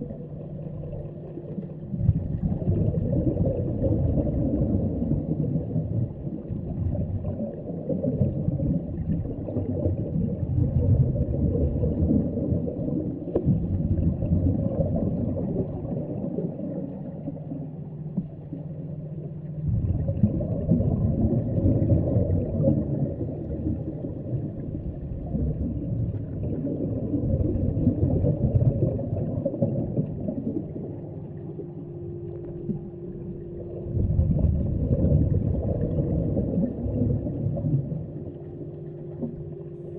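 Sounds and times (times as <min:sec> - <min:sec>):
faint steady hum: 0:00.0 - 0:39.9
low underwater rumble: 0:00.0 - 0:39.9.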